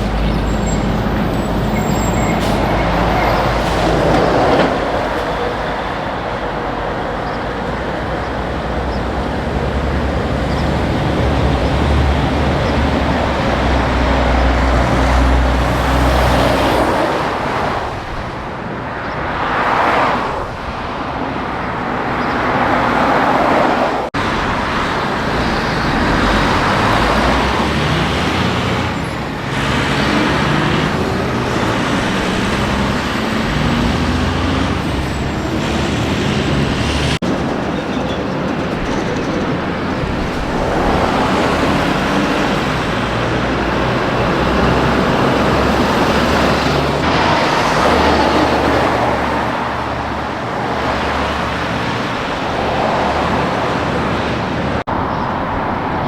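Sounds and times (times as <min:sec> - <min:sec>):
highway traffic passing: 0:00.0 - 0:56.0.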